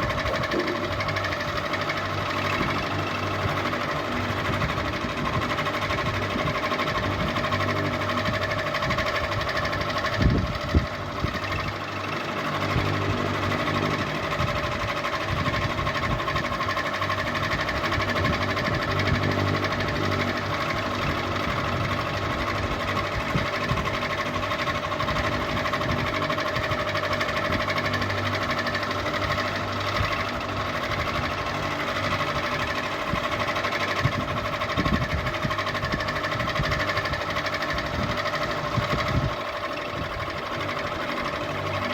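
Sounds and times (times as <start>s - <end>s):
ceiling fan motor hum: 0.0s - 41.9s
fast mechanical rattle: 0.0s - 41.9s.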